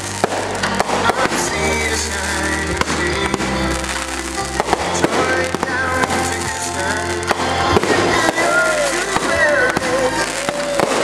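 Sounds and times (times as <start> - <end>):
fireworks bangs and crackles: 0.0 - 11.0
music: 0.0 - 11.0.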